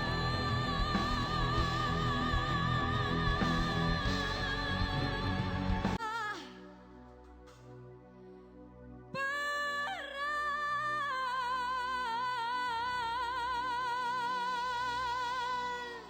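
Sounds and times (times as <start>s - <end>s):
person singing with vibrato: 0.0s - 6.8s, 9.2s - 16.0s.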